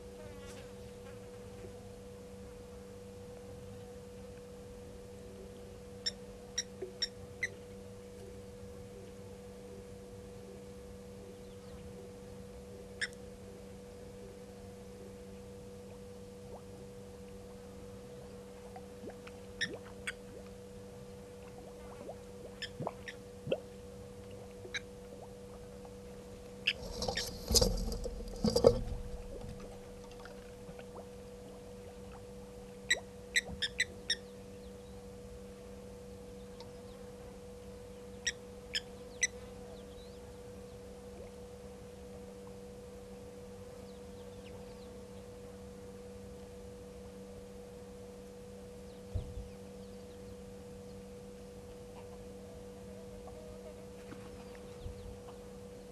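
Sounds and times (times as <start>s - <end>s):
electrical hum: 0.0s - 55.9s.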